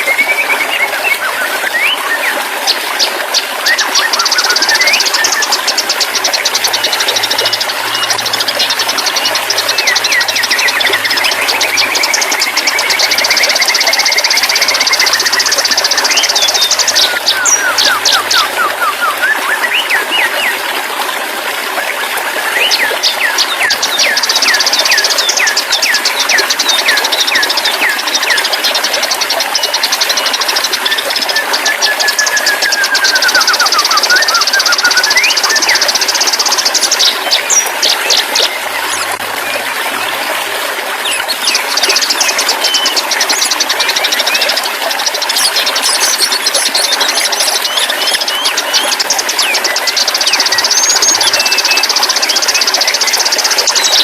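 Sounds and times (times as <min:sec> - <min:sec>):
songbirds chirping and trilling: 0:00.0 - 0:20.6, 0:22.4 - 0:54.0
running water rushing: 0:00.0 - 0:54.0.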